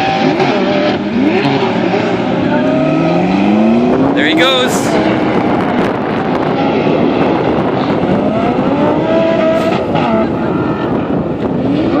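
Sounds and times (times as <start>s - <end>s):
road noise: 0.0s - 12.0s
sports car engines revving: 0.0s - 12.0s.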